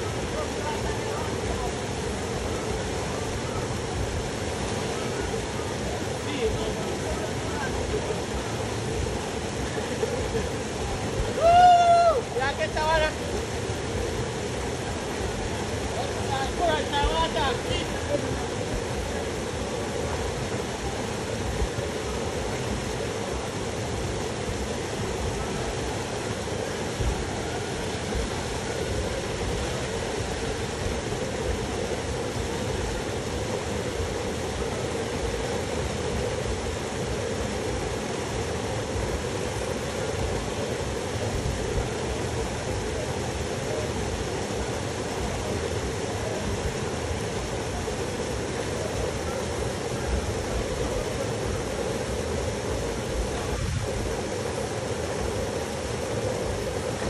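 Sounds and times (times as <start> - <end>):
waterfall rushing into pool: 0.0 - 57.0.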